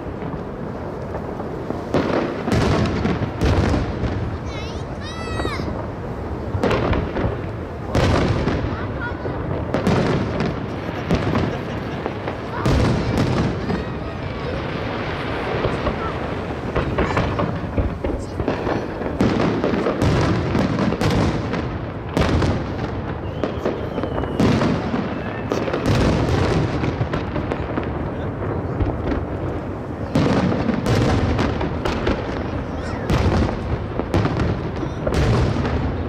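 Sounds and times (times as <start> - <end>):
fireworks booming: 0.0 - 36.0
fireworks crackling: 0.0 - 36.0.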